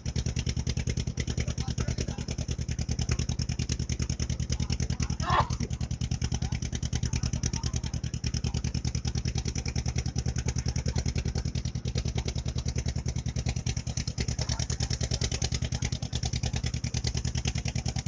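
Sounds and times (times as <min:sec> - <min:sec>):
motorboat engine thudding: 0:00.0 - 0:18.0.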